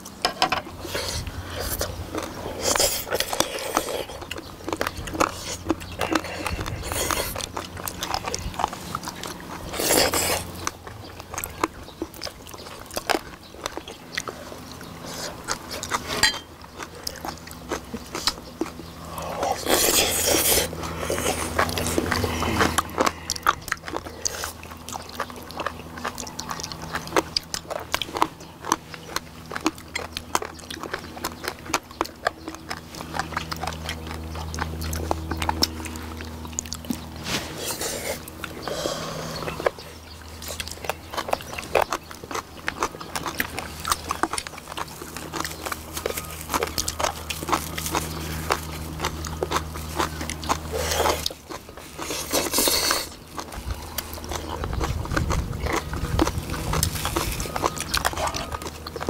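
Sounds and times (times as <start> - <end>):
slurping: 0.0 - 59.0
wet chewing and biting: 0.0 - 59.0.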